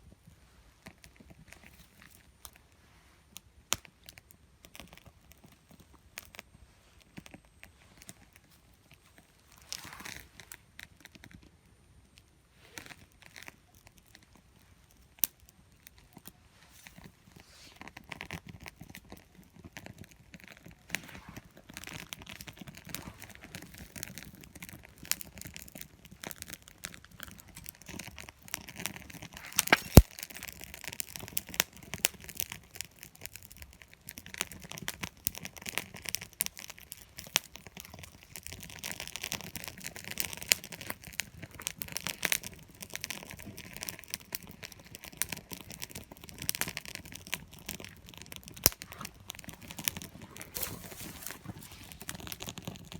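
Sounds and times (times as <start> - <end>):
wood fire crackling and popping: 0.1 - 52.9.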